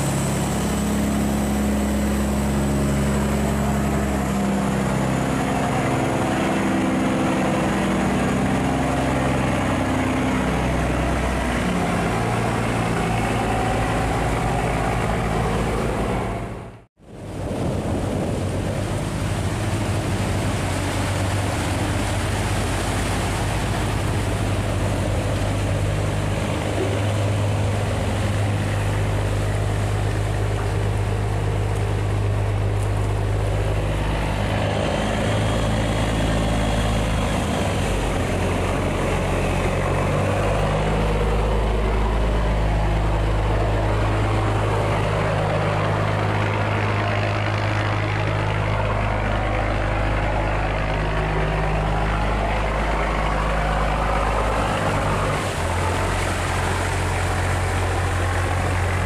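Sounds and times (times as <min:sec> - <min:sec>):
barge engines droning: 0:00.0 - 0:59.0
churned water: 0:00.0 - 0:59.0.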